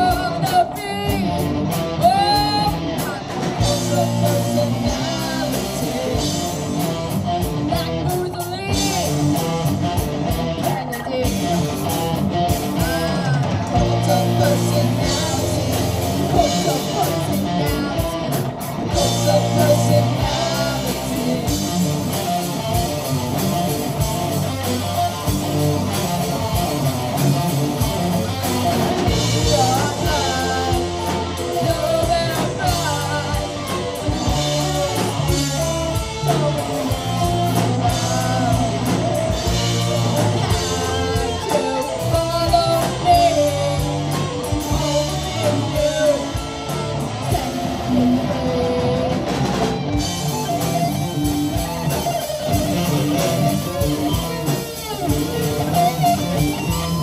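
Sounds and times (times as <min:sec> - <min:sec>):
rock music with guitar and singing: 0:00.0 - 0:57.0.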